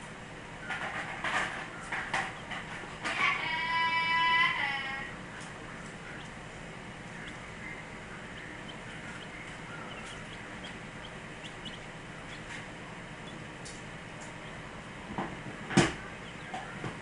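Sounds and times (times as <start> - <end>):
steady background noise: 0.0 - 17.0
chicks peeping: 0.5 - 17.0.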